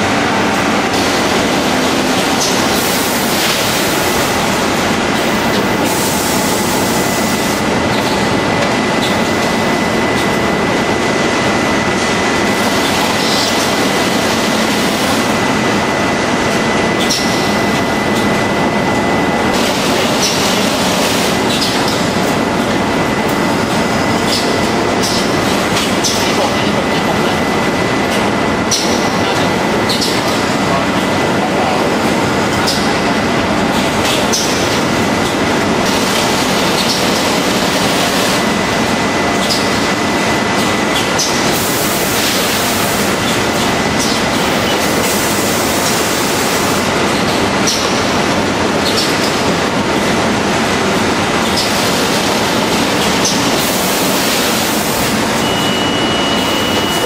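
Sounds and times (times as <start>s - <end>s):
thin steady whine: 0.0s - 48.8s, 49.5s - 57.0s
conveyor machinery running: 0.0s - 57.0s.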